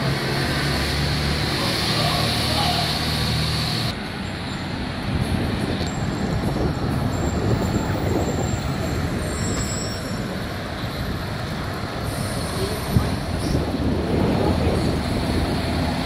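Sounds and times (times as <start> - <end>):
diesel truck running: 0.0 - 16.0
street traffic: 0.0 - 16.0.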